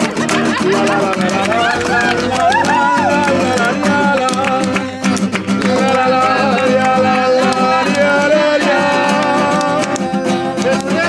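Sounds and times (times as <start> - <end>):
classical guitar strummed: 0.0 - 11.0
man singing: 0.6 - 11.0.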